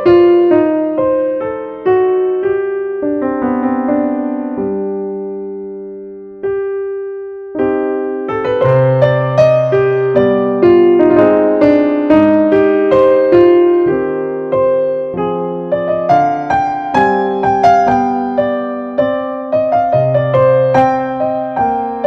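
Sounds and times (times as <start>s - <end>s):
gentle keyboard tune: 0.0s - 22.0s.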